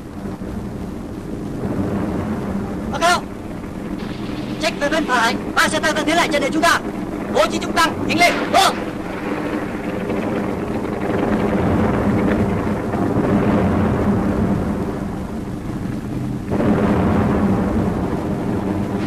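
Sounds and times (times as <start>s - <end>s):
tank engines rumbling: 0.0s - 19.0s.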